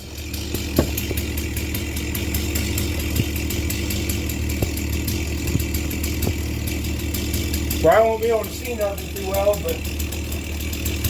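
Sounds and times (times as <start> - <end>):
small two-stroke engine idling: 0.0 - 11.0.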